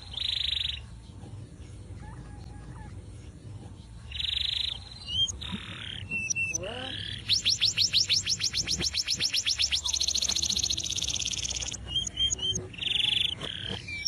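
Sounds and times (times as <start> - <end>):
canary chirps: 0.0 - 14.0
canary singing trills: 0.0 - 14.0.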